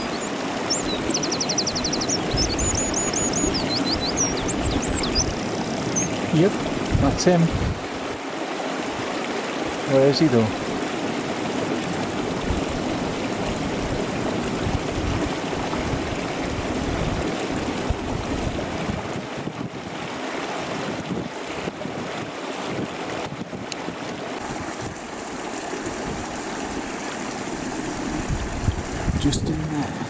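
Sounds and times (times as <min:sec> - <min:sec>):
wind buffeting microphone: 0:00.0 - 0:08.2, 0:10.5 - 0:30.0
stream water rushing: 0:00.0 - 0:30.0.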